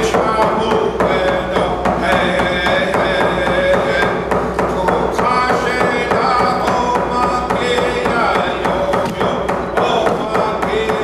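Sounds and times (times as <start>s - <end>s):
frame drum beating: 0.0s - 11.0s
man singing: 0.0s - 11.0s.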